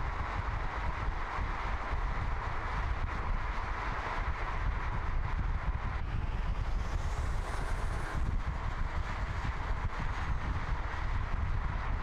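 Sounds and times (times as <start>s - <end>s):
wind rushing past car: 0.0s - 12.0s.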